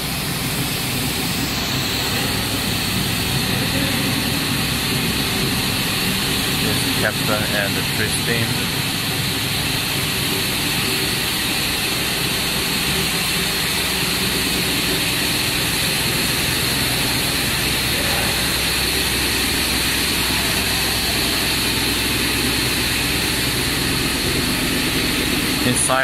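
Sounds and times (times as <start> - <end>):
twisting machine high whirring hiss: 0.1 - 26.0.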